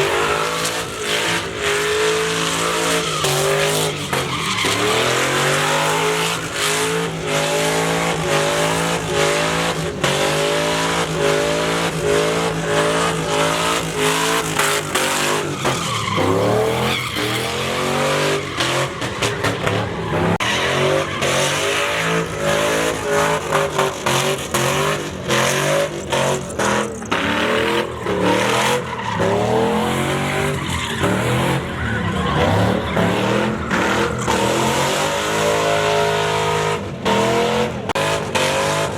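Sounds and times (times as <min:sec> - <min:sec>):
truck engine at high revs: 0:00.0 - 0:38.9
tyres spinning and squealing: 0:00.0 - 0:38.9.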